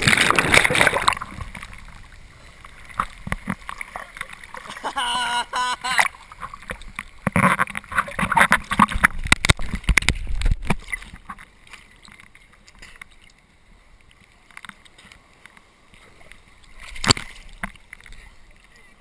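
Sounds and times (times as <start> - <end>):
sea water splashing: 0.0 - 19.0.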